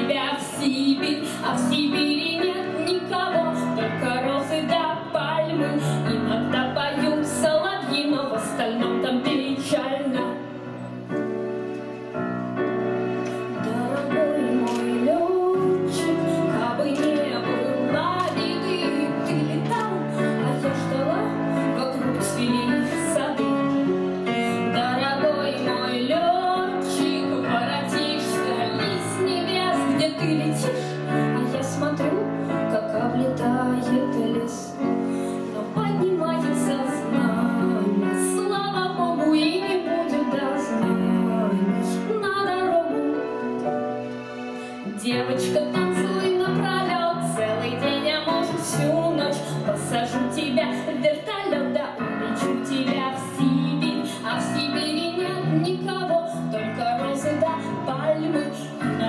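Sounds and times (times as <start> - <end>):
woman singing into microphone: 0.0 - 10.5, 13.3 - 43.8, 44.8 - 59.0.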